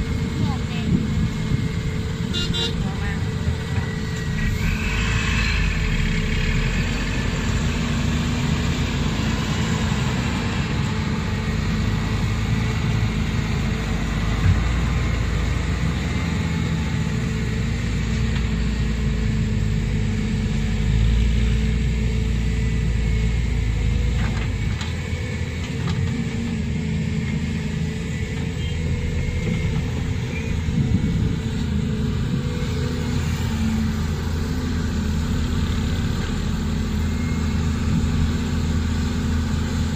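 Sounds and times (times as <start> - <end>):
dump truck pulling away: 0.0 - 39.9
excavator diesel engine: 0.0 - 39.9.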